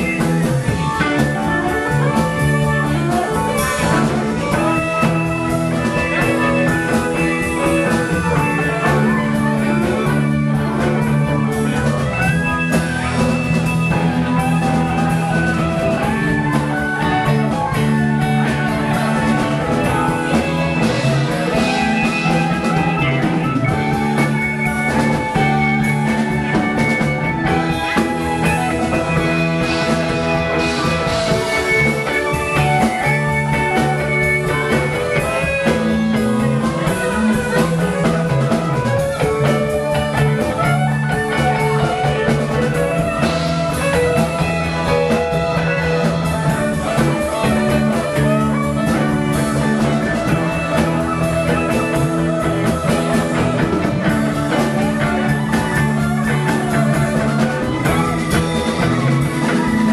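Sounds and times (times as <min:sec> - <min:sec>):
fiddle: 0:00.0 - 0:59.9
rock band playing instrumental: 0:00.0 - 0:59.9.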